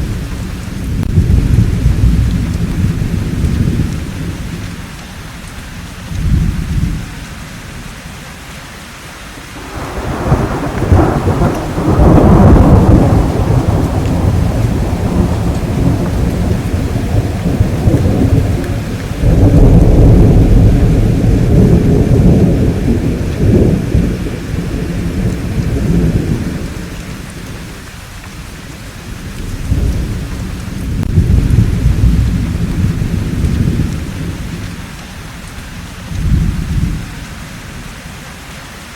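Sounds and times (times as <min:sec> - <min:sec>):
thunder rumbling: 0:00.0 - 0:05.0, 0:05.7 - 0:07.9, 0:09.4 - 0:37.3
steady rainfall: 0:00.0 - 0:38.9.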